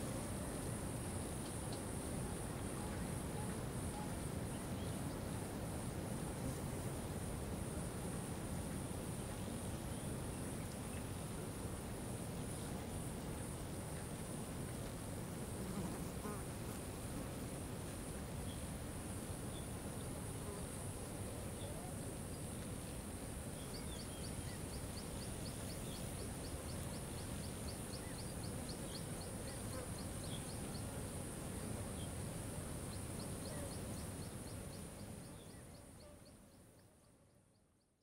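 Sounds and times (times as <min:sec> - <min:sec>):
steady high hiss: 0:00.0 - 0:37.7.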